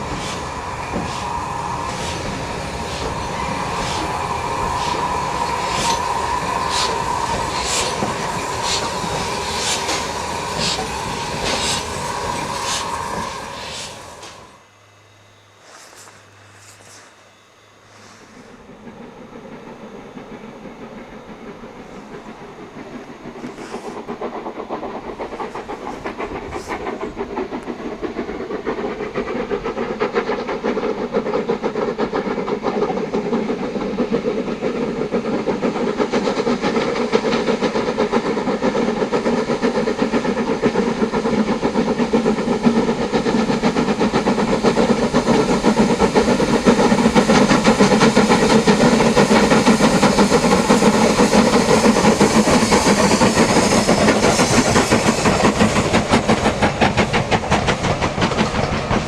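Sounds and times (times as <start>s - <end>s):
train wheel clatter: 0.0s - 14.6s, 15.6s - 59.0s
steam locomotive exhaust beats: 0.0s - 59.0s.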